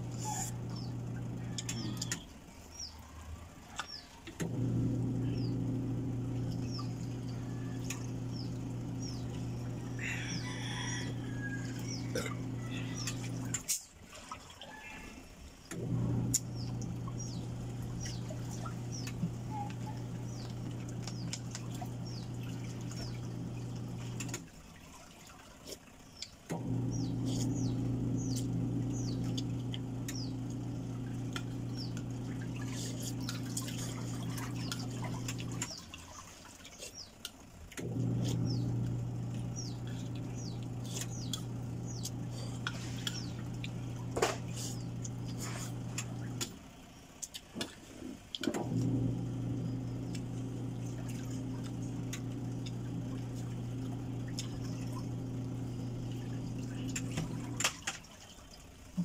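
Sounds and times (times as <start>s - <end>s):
steady low hum: 0.0s - 2.4s, 4.4s - 13.6s, 15.8s - 24.5s, 26.5s - 36.3s, 37.7s - 47.2s, 47.9s - 57.9s
small birds chirping: 0.1s - 13.6s, 16.0s - 24.4s, 26.0s - 57.6s.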